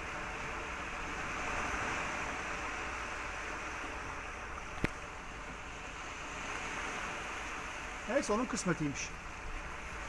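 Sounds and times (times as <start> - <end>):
stream water running over rocks: 0.0 - 10.0.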